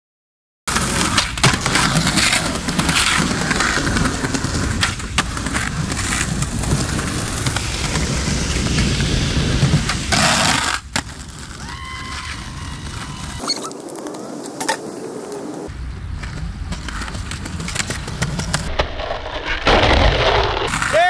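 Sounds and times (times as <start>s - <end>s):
skateboard clacks: 0.7s - 18.8s
skateboard wheels rolling on concrete: 0.7s - 21.0s.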